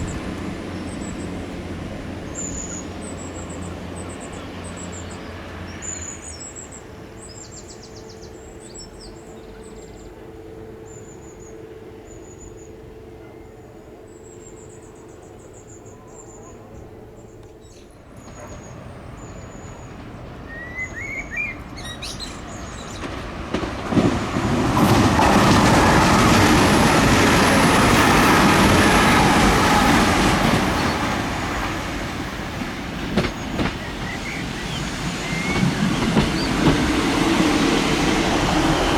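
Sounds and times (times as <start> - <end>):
birds chirping: 0.0 - 38.9
train passing: 0.0 - 38.9.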